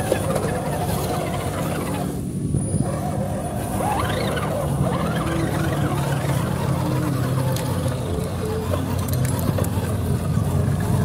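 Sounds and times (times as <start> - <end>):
toy car motor whining: 0.0 - 11.0.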